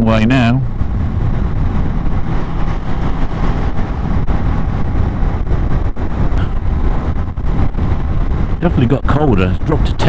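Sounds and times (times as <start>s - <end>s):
motorcycle engine rumble: 0.0s - 10.0s
wind rush on microphone: 0.0s - 10.0s.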